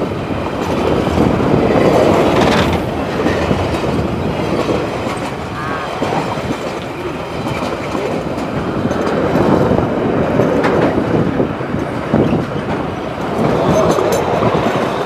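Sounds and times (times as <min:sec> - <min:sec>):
freight train wheels rumbling: 0:00.0 - 0:15.0
wheels clattering over rail joints: 0:00.0 - 0:15.0.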